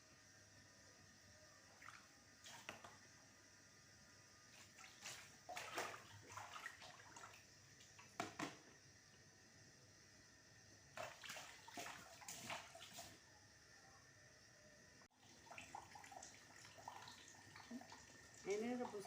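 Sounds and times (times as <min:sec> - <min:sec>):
water bubbling in a pot: 0:00.0 - 0:19.0.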